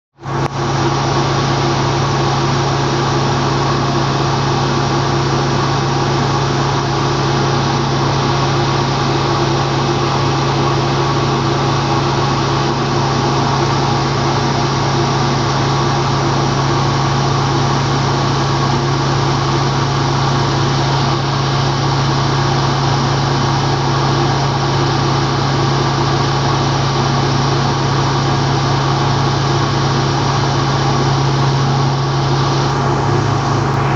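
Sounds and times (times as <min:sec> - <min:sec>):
boat engine droning: 0:00.1 - 0:33.9.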